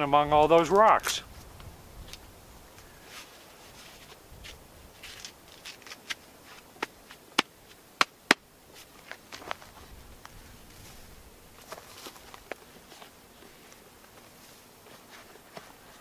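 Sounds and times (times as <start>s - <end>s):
rustling of work gloves: 0.7s - 7.8s, 8.7s - 16.0s.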